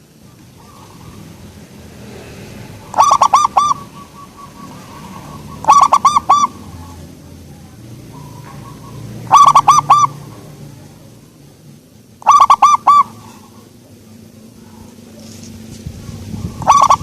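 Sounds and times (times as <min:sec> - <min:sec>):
dove cooing: 0:00.0 - 0:11.5, 0:12.2 - 0:17.0.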